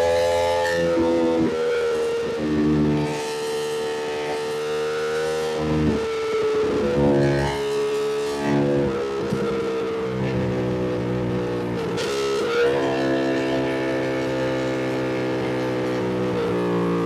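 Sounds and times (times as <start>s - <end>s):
motorcycle engine: 0.2s - 17.0s.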